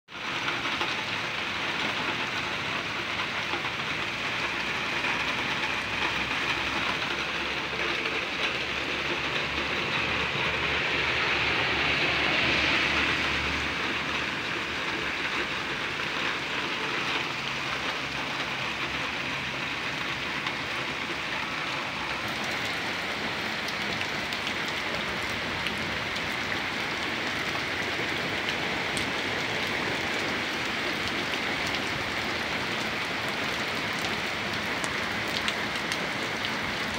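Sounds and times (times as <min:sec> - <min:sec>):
heavy rain pouring: 0:00.1 - 0:36.9.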